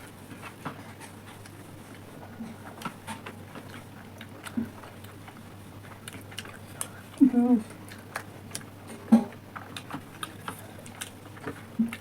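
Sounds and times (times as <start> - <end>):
people chewing: 0.0 - 12.0
steady low hum: 0.0 - 12.0.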